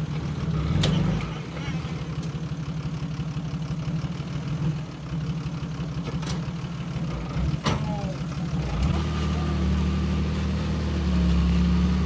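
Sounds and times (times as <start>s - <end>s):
bulldozer diesel engine: 0.0s - 12.0s.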